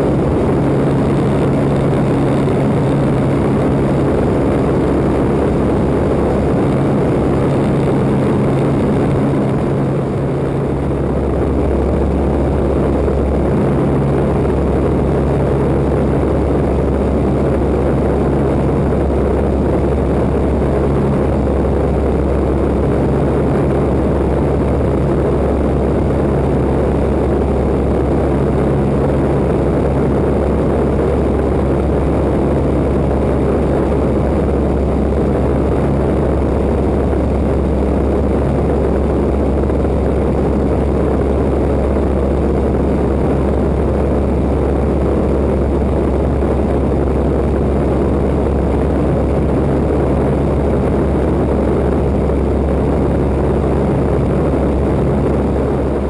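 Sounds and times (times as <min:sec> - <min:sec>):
propeller plane engine droning: 0:00.0 - 0:56.0
wind rushing over microphone: 0:00.0 - 0:56.0.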